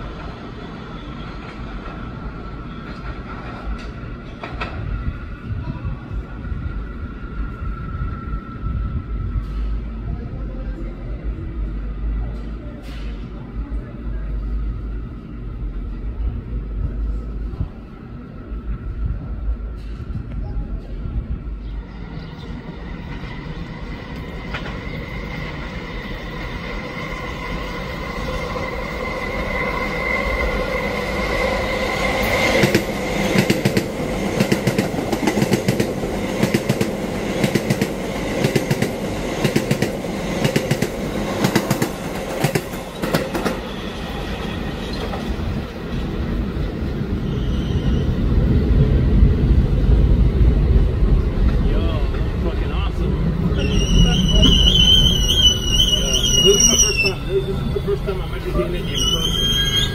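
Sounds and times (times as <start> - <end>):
low rumble of approaching train: 0.0 - 59.9
train whine: 0.0 - 59.9.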